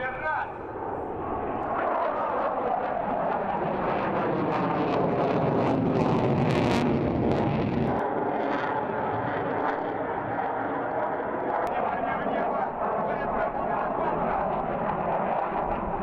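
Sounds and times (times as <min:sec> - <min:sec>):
aircraft engine rushing: 0:00.0 - 0:16.0.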